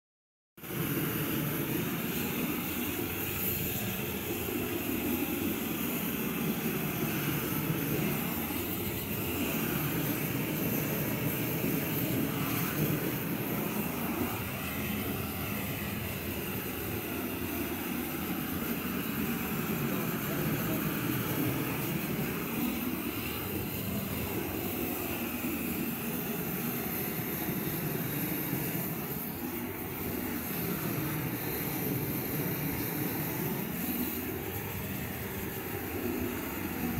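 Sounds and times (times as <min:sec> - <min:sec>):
gas torch flame rushing: 0:00.6 - 0:36.9.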